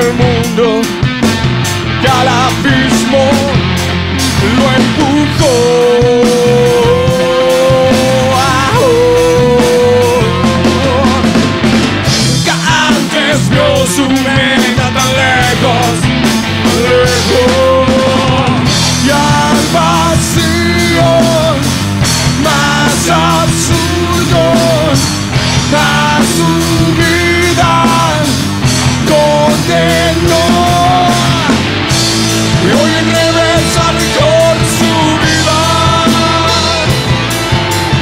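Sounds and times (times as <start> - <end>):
man singing: 0.0 - 38.0
rock band playing: 0.0 - 38.0.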